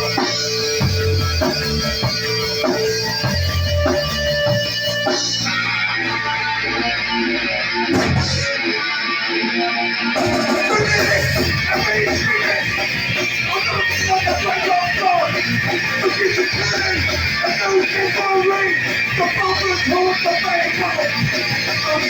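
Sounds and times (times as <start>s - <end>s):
live band playing guitar-led instrumental: 0.0s - 22.0s.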